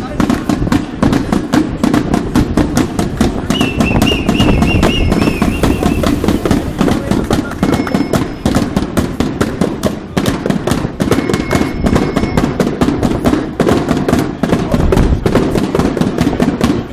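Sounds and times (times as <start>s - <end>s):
marching crowd noise: 0.0s - 16.9s
marching drum beating: 0.0s - 16.9s.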